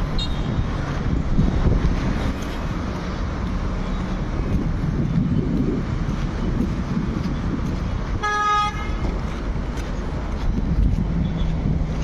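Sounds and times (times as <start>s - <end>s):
road traffic cars passing: 0.0s - 12.0s
wind buffeting microphone: 0.0s - 12.0s.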